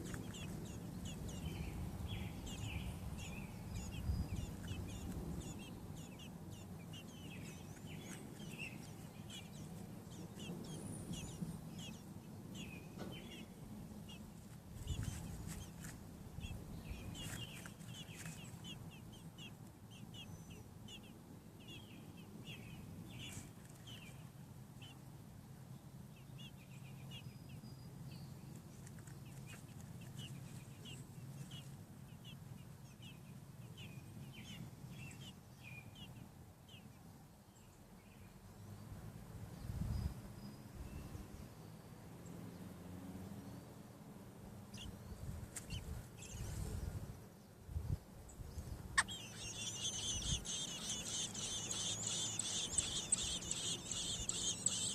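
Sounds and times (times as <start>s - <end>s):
nestlings peeping: 0.0s - 25.1s, 25.9s - 37.1s, 44.6s - 54.9s.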